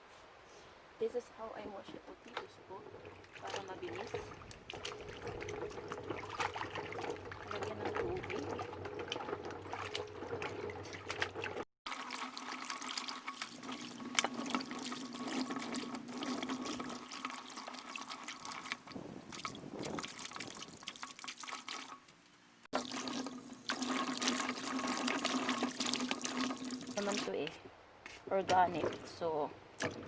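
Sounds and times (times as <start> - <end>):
water splashing over potatoes: 2.2 - 22.0, 22.7 - 27.5.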